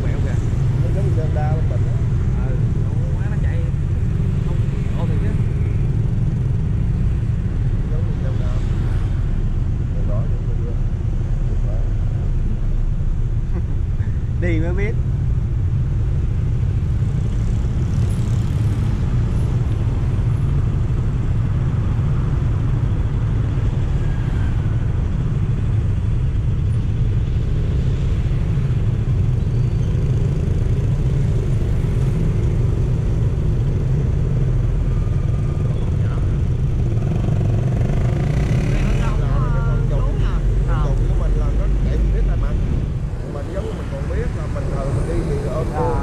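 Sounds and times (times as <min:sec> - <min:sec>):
road vehicle rumble: 0:00.0 - 0:46.0.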